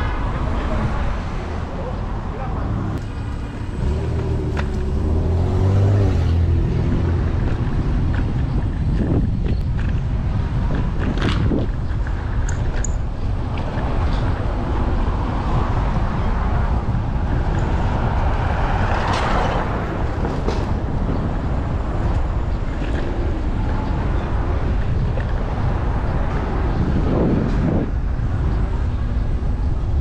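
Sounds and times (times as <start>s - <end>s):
street traffic: 0.0s - 30.0s
wind buffeting microphone: 0.0s - 30.0s.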